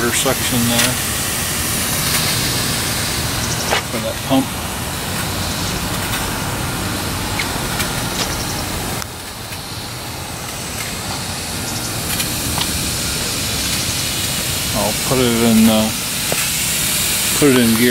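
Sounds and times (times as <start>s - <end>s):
steam hissing: 0.0s - 17.9s.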